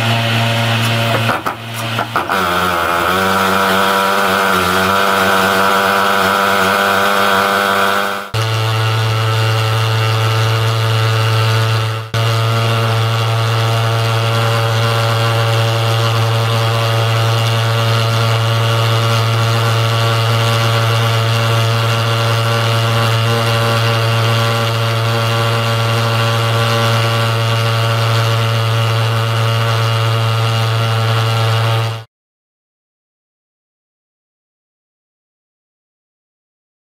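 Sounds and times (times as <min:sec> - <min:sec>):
thermal fogger droning: 0:00.0 - 0:32.1.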